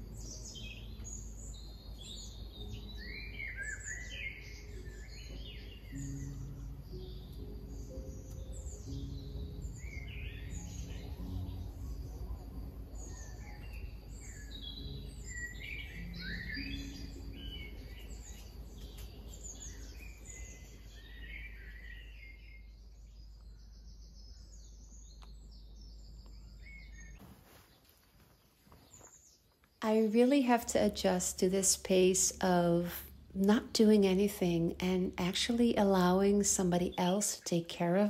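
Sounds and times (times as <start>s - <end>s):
songbirds singing and chirping: 0.0s - 38.0s.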